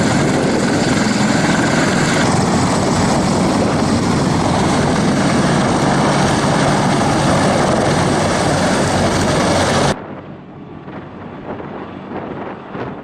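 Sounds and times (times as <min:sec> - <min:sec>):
helicopter running: 0:00.0 - 0:13.0.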